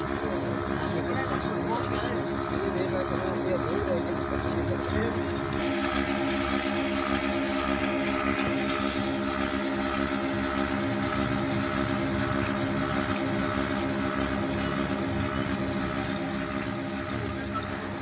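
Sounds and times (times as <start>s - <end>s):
milking machine pump pulsing: 0.0s - 18.0s.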